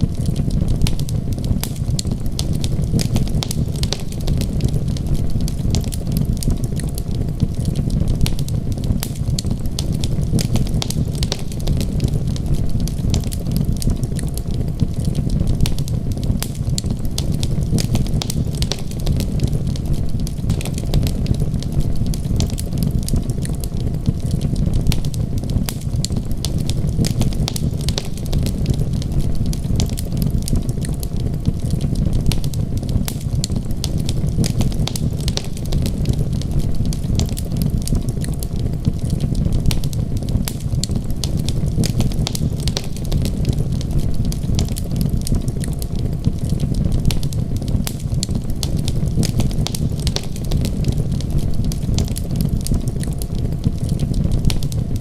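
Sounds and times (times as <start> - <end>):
fire popping and snapping: 0.0 - 55.0
wood fire crackling: 0.0 - 55.0.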